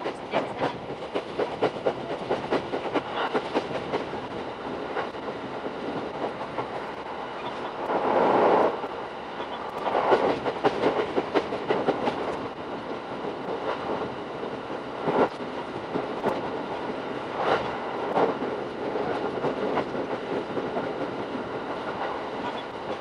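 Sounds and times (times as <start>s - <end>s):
train rumble: 0.0s - 23.0s
train wheels clickety-clack: 0.0s - 23.0s.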